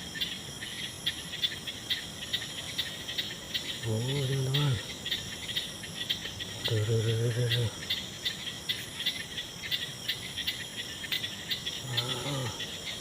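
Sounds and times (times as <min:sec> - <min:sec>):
crickets chirping: 0:00.0 - 0:13.0
insects high trill: 0:00.0 - 0:13.0.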